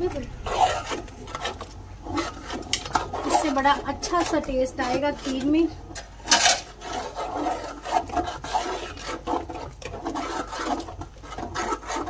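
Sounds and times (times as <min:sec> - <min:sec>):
metal spoon scraping pot: 0:00.0 - 0:12.0.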